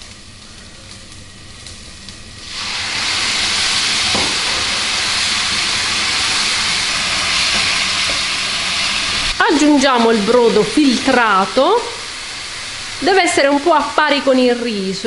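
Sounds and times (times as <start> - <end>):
wine sizzling in a hot pan: 0.0 - 15.0.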